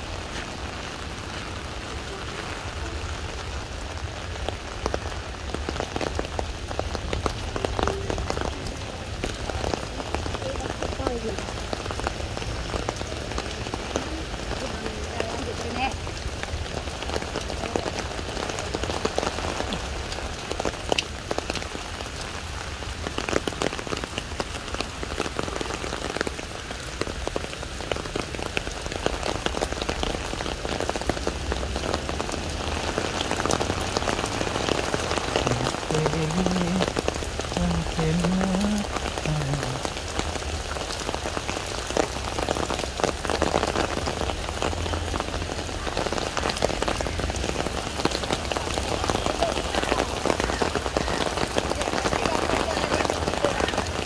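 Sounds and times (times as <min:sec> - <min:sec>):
rain on brick pavement: 0:00.0 - 0:54.0.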